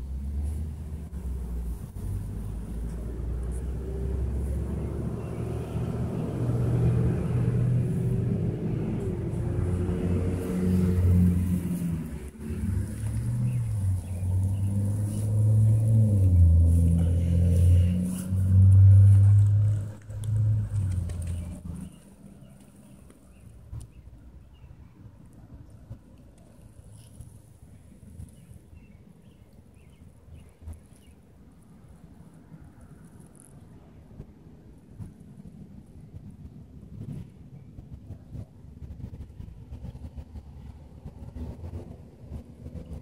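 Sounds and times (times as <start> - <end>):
motor vehicle engine rumble: 0.0 - 43.0.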